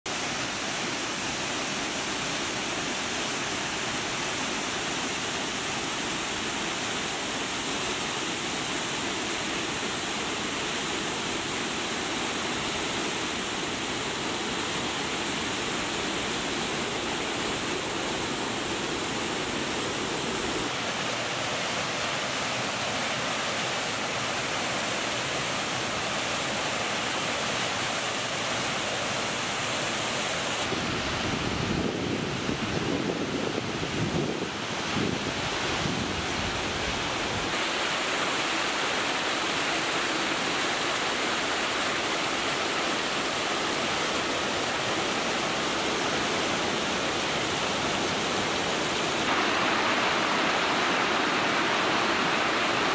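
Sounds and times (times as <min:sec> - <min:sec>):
waterfall rushing: 0:00.1 - 0:52.9.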